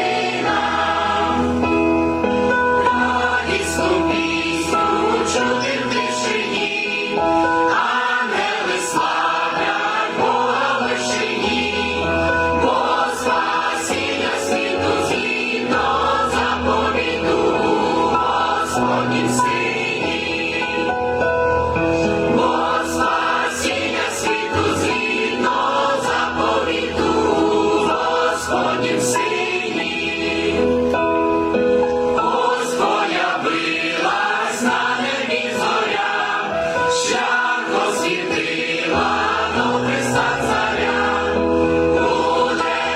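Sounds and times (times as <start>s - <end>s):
choir singing a carol: 0.0s - 42.9s.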